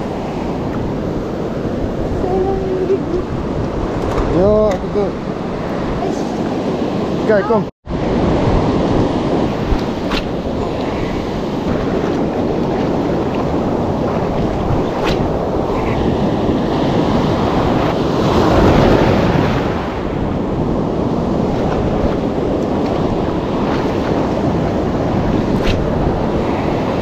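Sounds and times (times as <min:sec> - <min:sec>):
surf washing onto beach: 0:00.0 - 0:27.0
wind buffeting microphone: 0:00.0 - 0:27.0.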